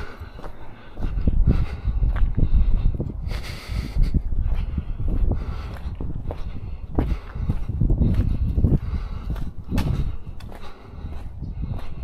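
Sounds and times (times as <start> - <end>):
footsteps: 0.0 - 12.0.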